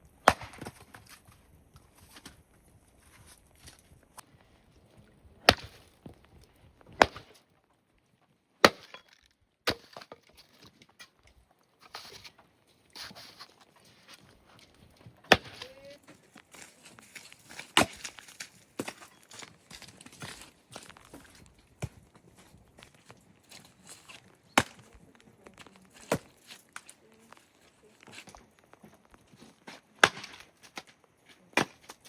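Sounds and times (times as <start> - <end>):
faint scraping and crackling: 0.7 - 32.0.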